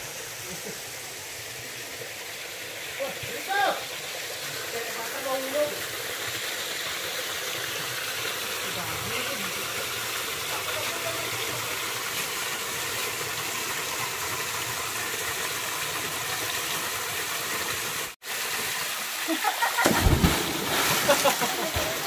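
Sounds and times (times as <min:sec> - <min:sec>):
stream flowing over rocks: 0:00.0 - 0:22.0.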